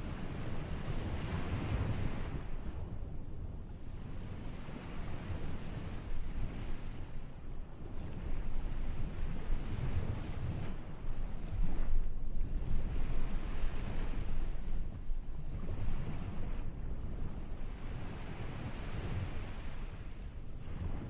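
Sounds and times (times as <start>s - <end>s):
ocean surf washing ashore: 0.0s - 3.1s, 4.0s - 21.0s.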